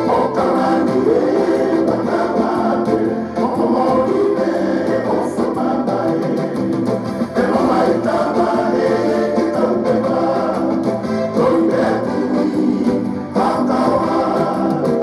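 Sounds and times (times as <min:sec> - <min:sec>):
group singing in harmony: 0:00.0 - 0:15.0
instrumental backing: 0:00.0 - 0:15.0.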